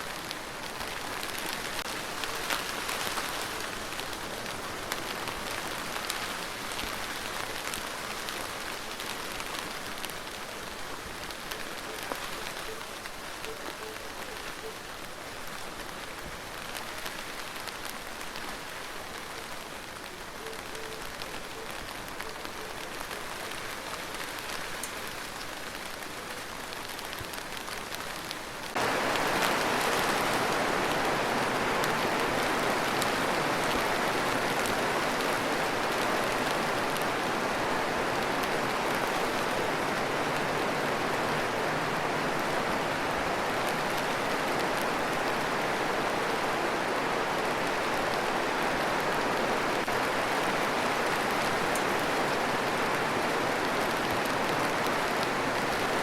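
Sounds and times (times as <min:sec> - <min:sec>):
heavy downpour: 0:00.0 - 0:56.0
rain patter: 0:00.0 - 0:56.0.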